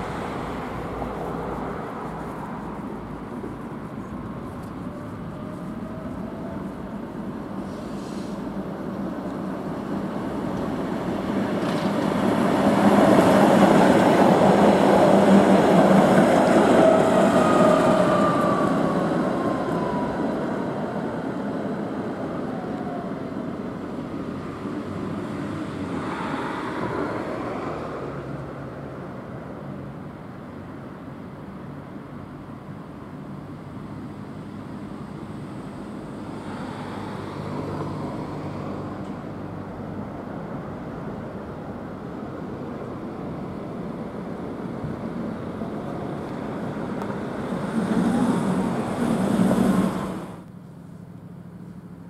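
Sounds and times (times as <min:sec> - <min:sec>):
tram running past: 0:00.0 - 0:29.9, 0:33.8 - 0:50.4.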